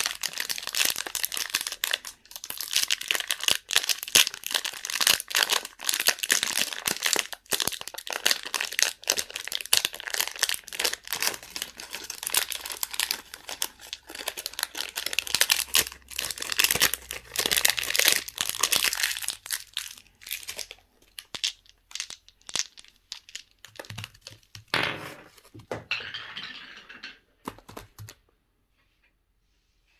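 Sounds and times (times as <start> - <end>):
plastic wrapping crinkling and tearing: 0.0 - 24.6.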